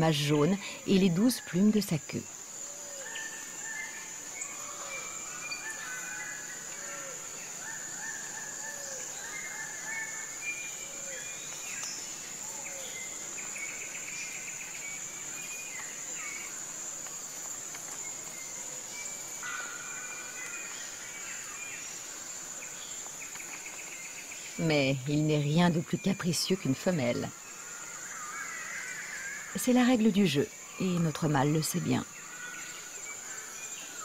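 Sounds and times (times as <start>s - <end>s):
insect drone: 0.0s - 34.0s.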